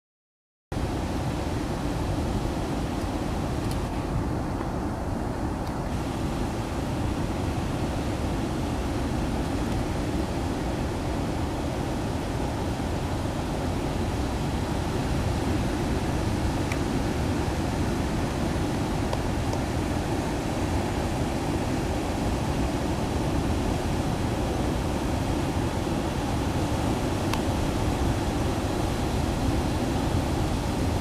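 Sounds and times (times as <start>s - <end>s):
rough surf: 0.8s - 31.0s
strong wind on microphone: 0.8s - 31.0s.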